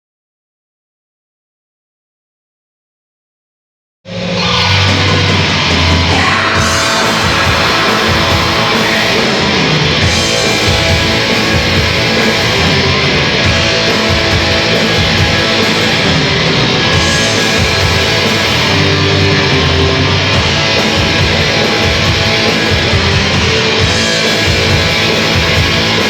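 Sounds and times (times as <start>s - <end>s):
bass guitar: 4.1s - 26.0s
distorted electric guitars: 4.1s - 26.0s
drums beating: 4.4s - 26.0s.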